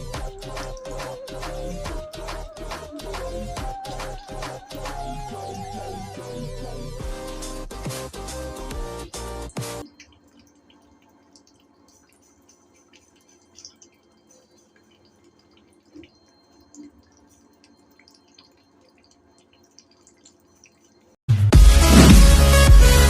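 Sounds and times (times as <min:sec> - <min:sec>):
water dripping: 0:00.0 - 0:21.3.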